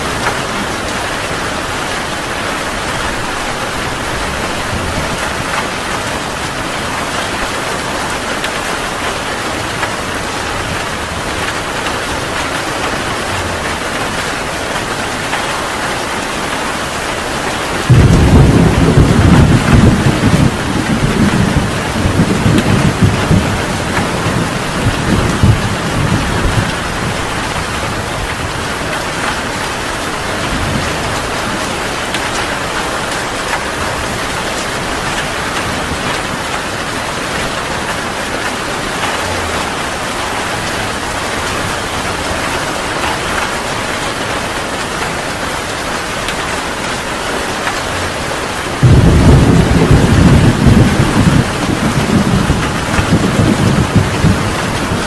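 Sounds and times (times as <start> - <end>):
thunder rumbling: 0.0 - 44.4, 45.1 - 55.0
heavy rain pouring: 0.0 - 55.0.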